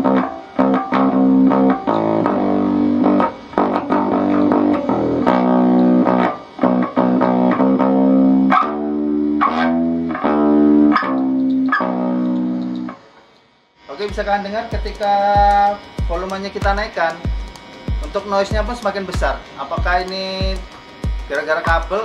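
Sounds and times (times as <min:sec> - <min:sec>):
electric bass guitar notes: 0:00.0 - 0:13.0, 0:13.8 - 0:22.0
amplifier hiss: 0:00.0 - 0:22.0.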